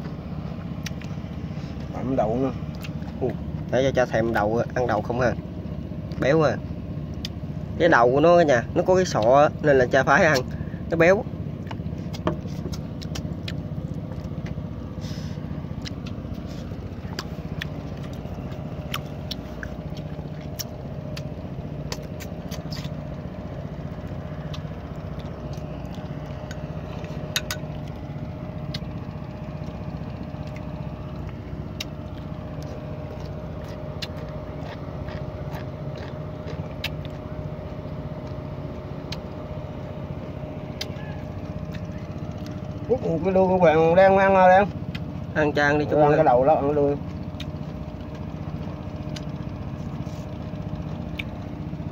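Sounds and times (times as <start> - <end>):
boat engine running: 0.0 - 51.9.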